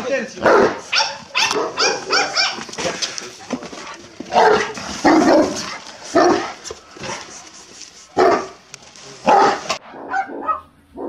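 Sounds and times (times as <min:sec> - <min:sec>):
large dogs barking: 0:00.3 - 0:11.0.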